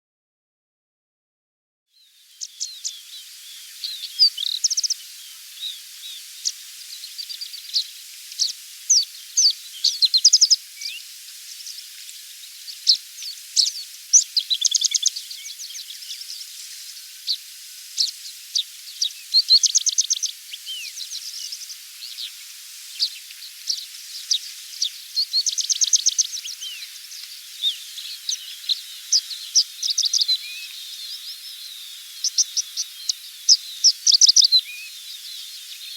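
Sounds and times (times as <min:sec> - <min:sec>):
high countryside background hiss: 0:02.0 - 0:35.9
small birds chirping and trilling: 0:02.0 - 0:35.9.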